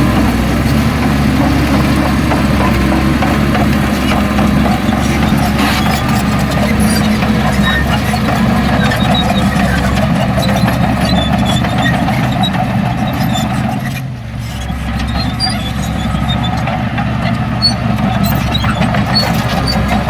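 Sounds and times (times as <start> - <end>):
diesel machinery engine running: 0.0 - 20.0.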